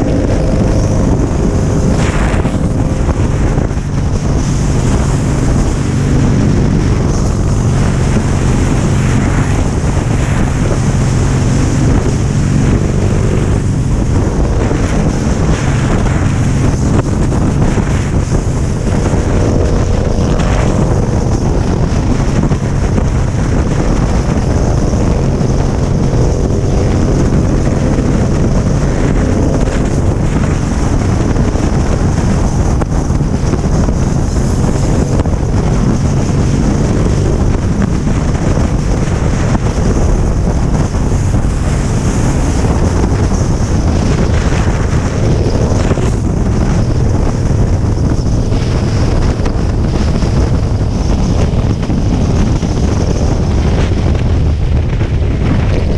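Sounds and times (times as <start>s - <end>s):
motorcycle engine running: 0.0s - 55.9s
wind noise on microphone: 0.0s - 55.9s.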